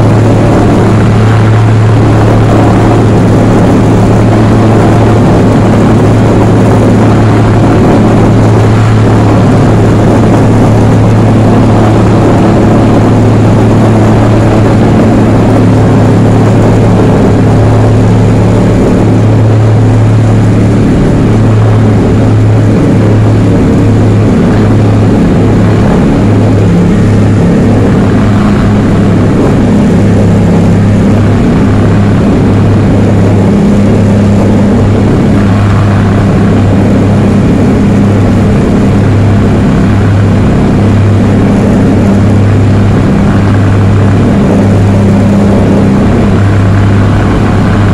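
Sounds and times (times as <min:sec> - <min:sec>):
propeller engines droning: 0:00.0 - 0:47.9.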